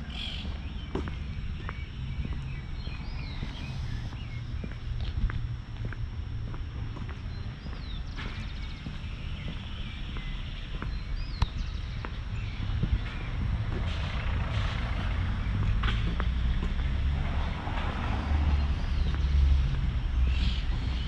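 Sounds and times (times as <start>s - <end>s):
birds chirping and trilling: 0.0s - 5.3s, 7.0s - 21.0s
low steady rumble: 0.0s - 21.0s.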